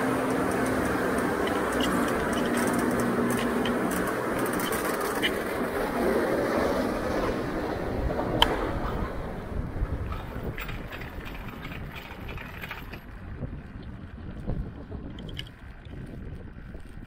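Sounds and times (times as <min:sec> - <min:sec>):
cable car cabin rumbling on rail: 0:00.0 - 0:17.0.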